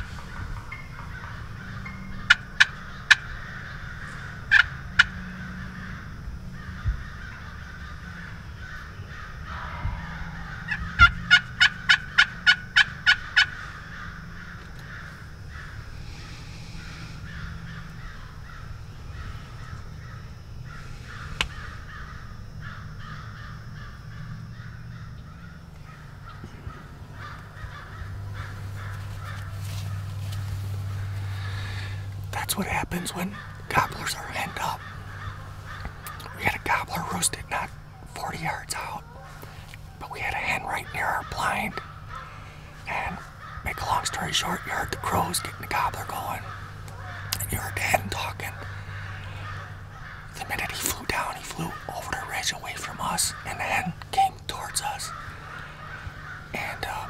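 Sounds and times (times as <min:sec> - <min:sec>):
hen turkey calling: 0:00.0 - 0:57.0
turkey gobbling: 0:00.0 - 0:57.0.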